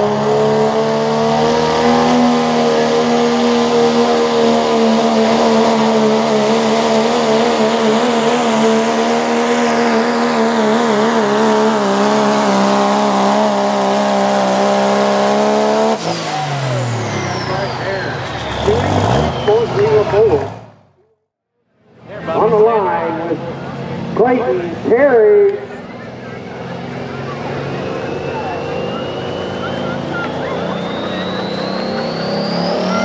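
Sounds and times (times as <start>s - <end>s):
diesel truck engine at high revs: 0.0s - 21.3s, 21.9s - 33.0s.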